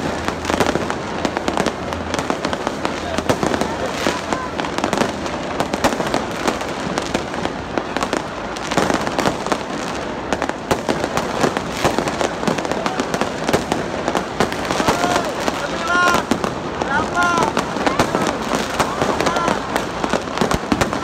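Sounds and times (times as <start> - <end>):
fireworks bangs and crackles: 0.0 - 21.0
large crowd noise: 0.0 - 21.0.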